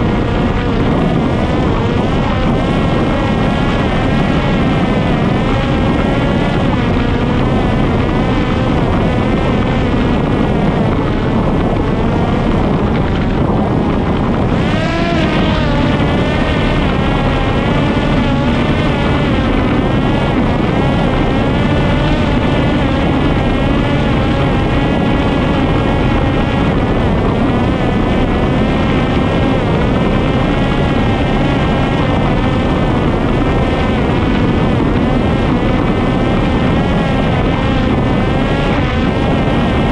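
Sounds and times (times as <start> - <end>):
drone motor and propeller whining: 0.0 - 39.9
wind rush: 0.0 - 39.9.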